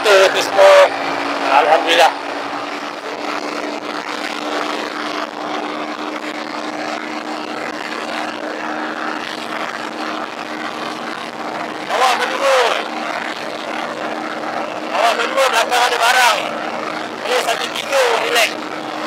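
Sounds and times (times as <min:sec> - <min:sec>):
motorcycle engine at high revs: 0:00.0 - 0:19.0
wind and road noise: 0:00.0 - 0:19.0.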